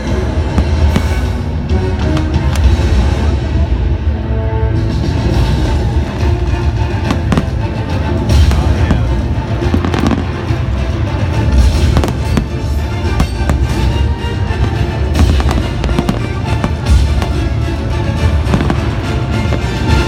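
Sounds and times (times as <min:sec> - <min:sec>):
fireworks bangs and crackles: 0:00.0 - 0:04.0, 0:05.0 - 0:20.0
loud music: 0:00.0 - 0:20.0.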